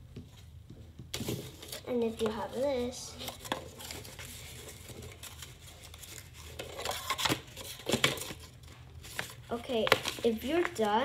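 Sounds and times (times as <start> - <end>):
paper rustling and crackling: 1.1 - 11.0.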